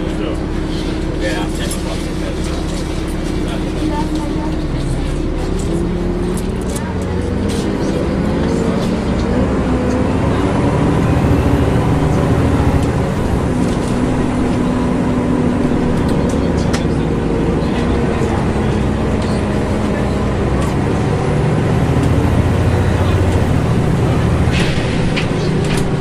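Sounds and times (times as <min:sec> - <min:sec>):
bus engine droning: 0:00.0 - 0:26.0
road and body noise: 0:00.0 - 0:26.0.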